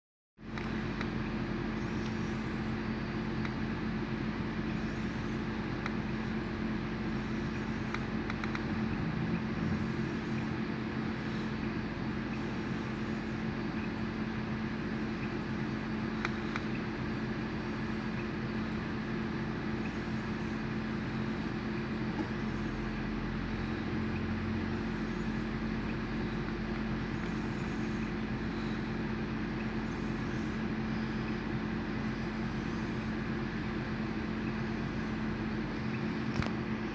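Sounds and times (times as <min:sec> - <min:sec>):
low mechanical hum: 0:00.4 - 0:36.9.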